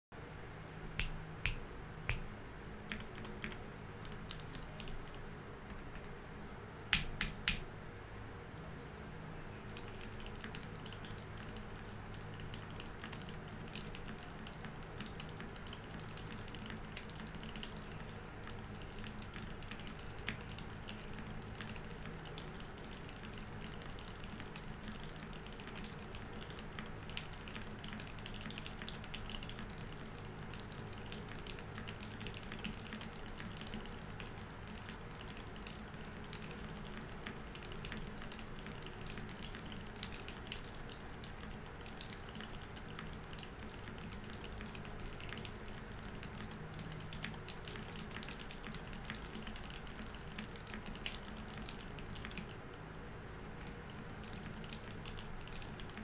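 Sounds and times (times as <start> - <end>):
mechanical keyboard typing: 2.9 - 5.2, 9.7 - 52.6, 53.6 - 56.0.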